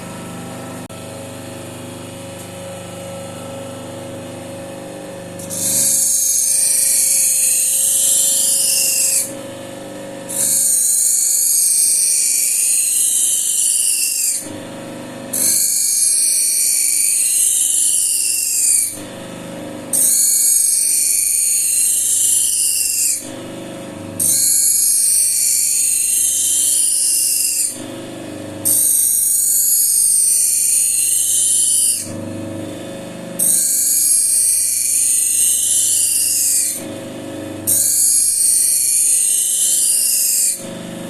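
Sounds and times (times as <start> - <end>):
motor humming: 0.0 - 41.0.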